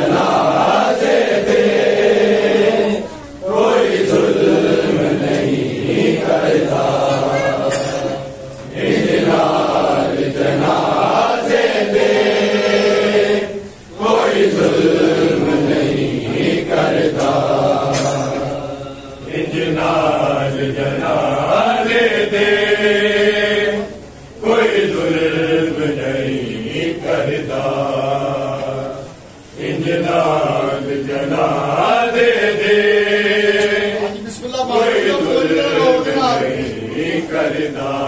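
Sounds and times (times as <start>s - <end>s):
men chanting a mourning lament: 0.0s - 38.0s.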